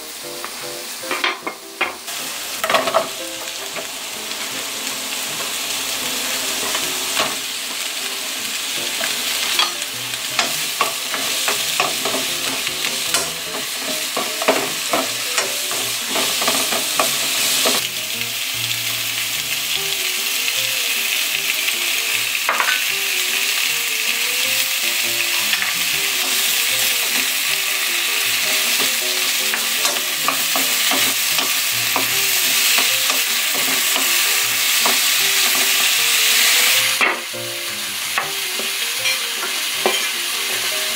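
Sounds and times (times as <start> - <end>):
vegetables sizzling in frying pan: 0.0 - 40.9.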